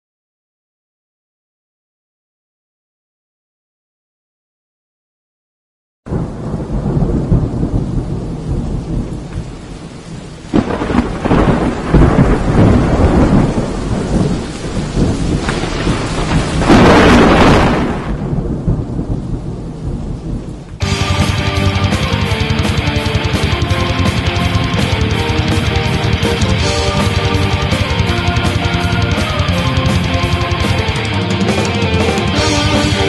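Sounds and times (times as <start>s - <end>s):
rumbling thunder: 6.1s - 33.0s
steady rain: 6.1s - 33.0s.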